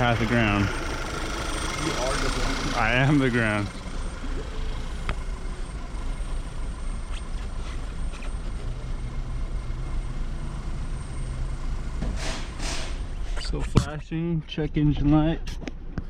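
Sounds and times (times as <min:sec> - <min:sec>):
car engine idling misfiring: 0:00.0 - 0:13.3.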